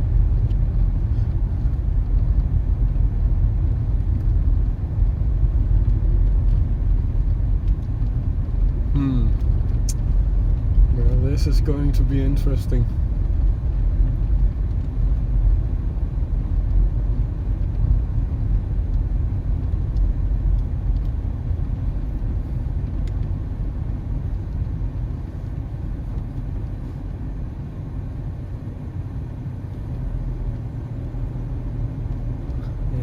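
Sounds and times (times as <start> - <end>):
minivan engine rumble: 0.0 - 33.0
road noise: 0.0 - 33.0.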